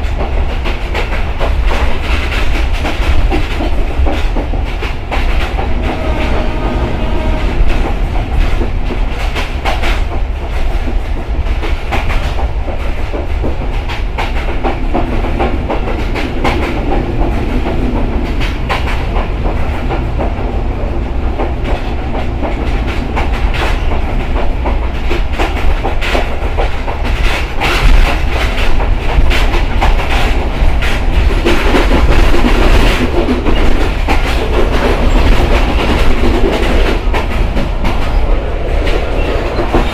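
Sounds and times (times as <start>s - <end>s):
deep train rumble: 0.0s - 39.9s
train wheels clacking: 0.0s - 39.9s.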